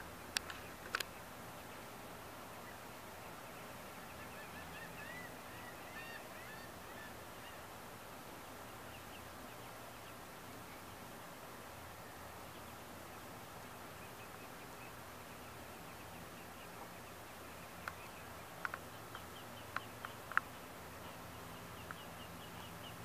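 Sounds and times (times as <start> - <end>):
faint hiss: 0.0 - 23.0
ducklings peeping: 0.1 - 23.0.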